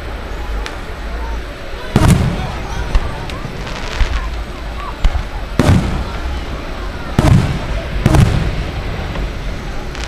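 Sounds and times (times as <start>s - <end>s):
firework bangs echoing: 1.8s - 10.0s.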